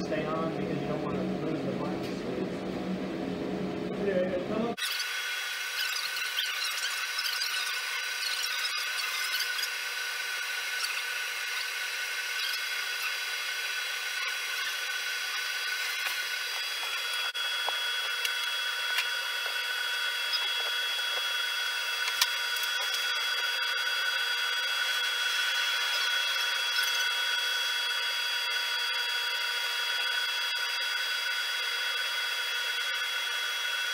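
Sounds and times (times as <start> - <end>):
dust collector running: 0.0 - 33.9
router high whine: 3.9 - 33.9.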